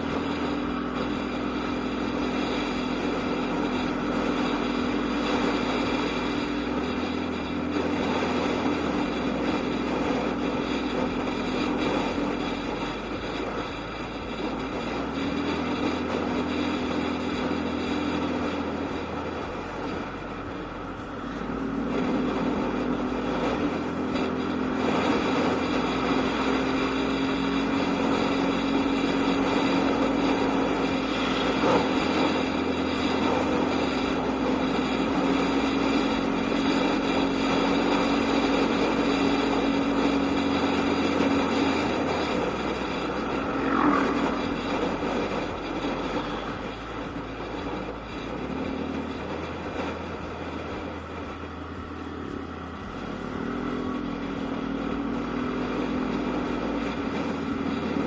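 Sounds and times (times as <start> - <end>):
motorcycle engine droning: 0.0 - 58.0
road and wind noise: 0.0 - 58.0.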